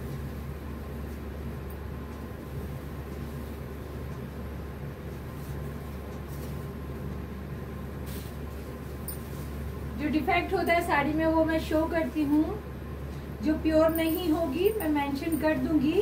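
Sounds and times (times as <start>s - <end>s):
low background hum and rumble: 0.0s - 16.0s.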